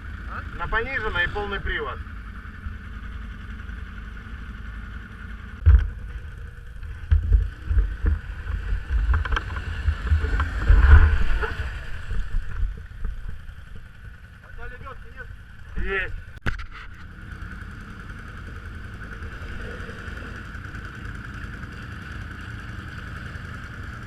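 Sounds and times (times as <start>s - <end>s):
off-road vehicle engine under load: 0.0s - 24.0s.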